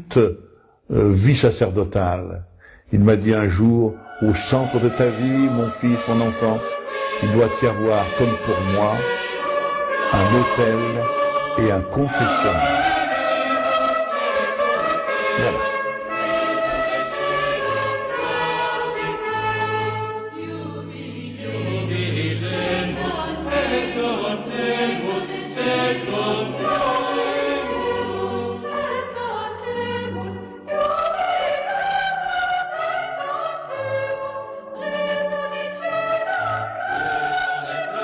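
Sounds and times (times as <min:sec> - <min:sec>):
choir singing: 0:03.0 - 0:38.0.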